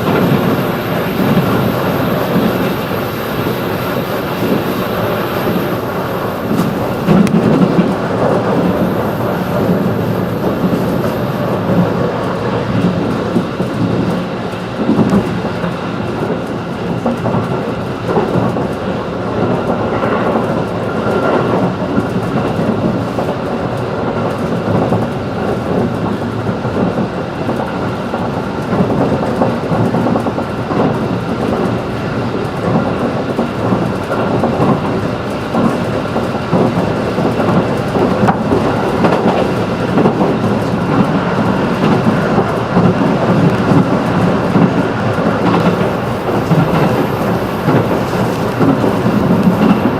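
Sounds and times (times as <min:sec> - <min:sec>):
train wheels rumbling on rail: 0:00.0 - 0:49.9.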